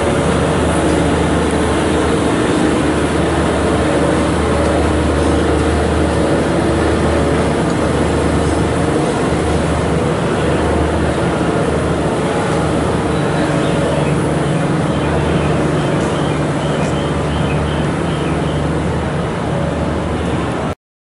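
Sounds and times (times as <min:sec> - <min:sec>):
diesel locomotive engine drone: 0:00.0 - 0:20.8.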